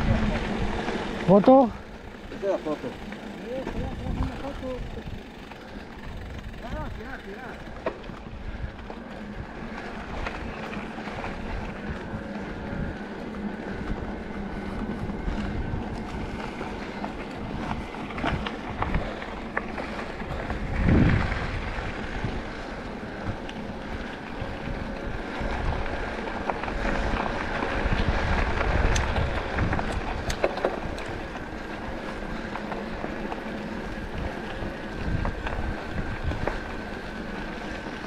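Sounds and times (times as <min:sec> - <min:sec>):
bike clicks and rattles: 0:00.0 - 0:38.0
wind buffeting microphone: 0:03.1 - 0:38.0.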